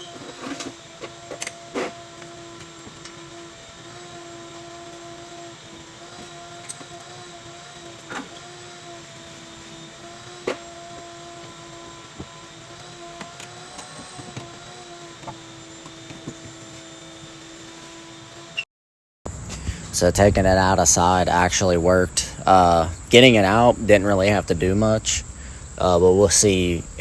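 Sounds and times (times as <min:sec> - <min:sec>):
mechanical hum: 0:00.0 - 0:18.6, 0:19.3 - 0:27.0.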